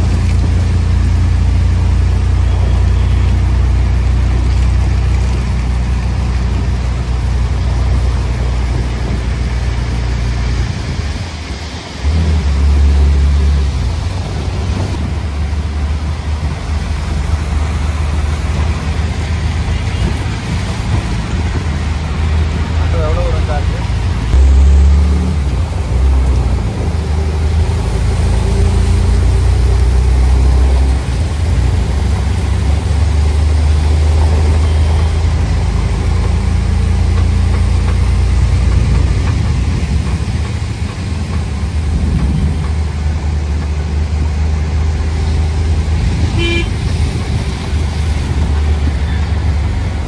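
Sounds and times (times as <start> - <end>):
heavy rain hissing: 0.0 - 50.0
small engine rumbling: 0.0 - 50.0.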